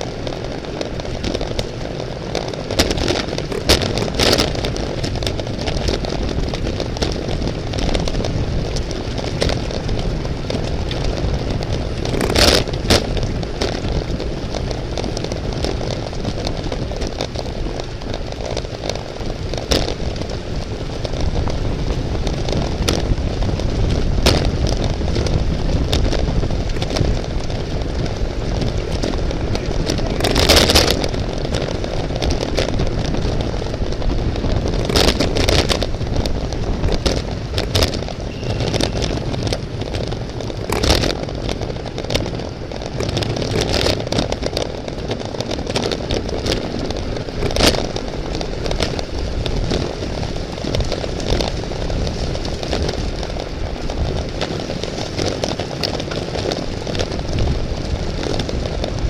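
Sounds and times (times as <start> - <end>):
bicycle clicks and rattles: 0.0 - 59.0
wind rushing over microphone: 0.0 - 59.0.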